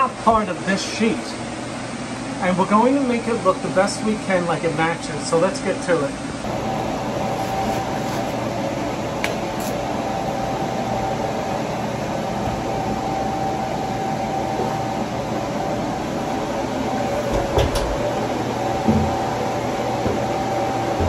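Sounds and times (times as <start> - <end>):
fan whirring: 0.0 - 21.0.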